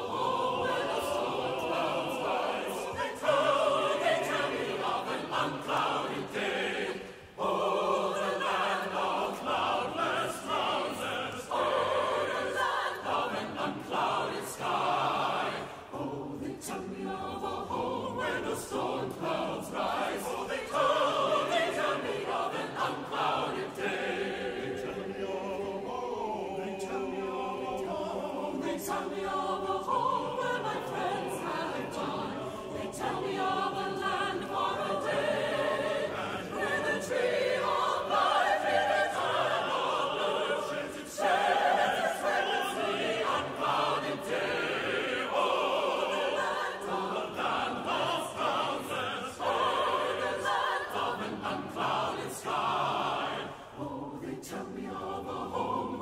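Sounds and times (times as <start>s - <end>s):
church choir singing a hymn: 0.0s - 56.0s.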